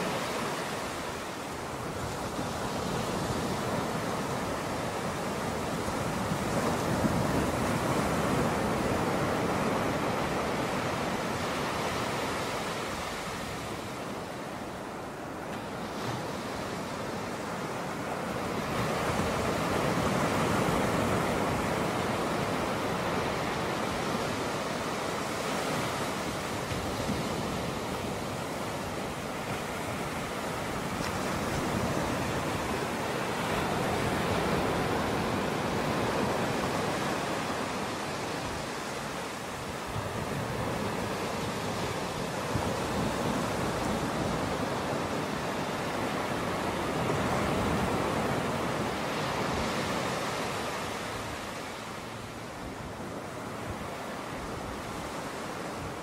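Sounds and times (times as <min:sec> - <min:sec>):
ocean surf breaking on beach: 0:00.0 - 0:56.0.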